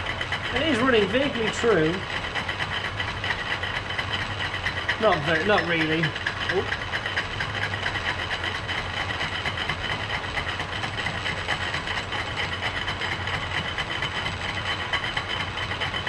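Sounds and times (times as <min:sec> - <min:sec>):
gearing rattling: 0:00.0 - 0:16.0
lathe motor hum: 0:00.0 - 0:16.0.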